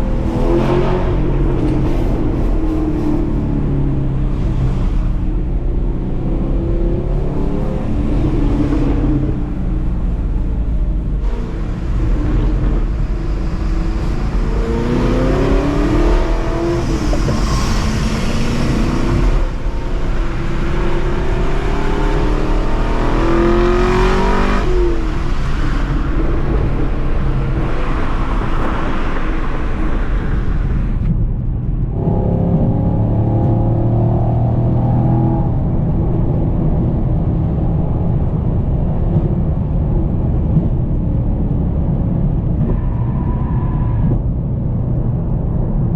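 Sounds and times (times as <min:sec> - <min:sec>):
car engine accelerating: 0:00.0 - 0:45.9
engine low drone: 0:00.0 - 0:45.9.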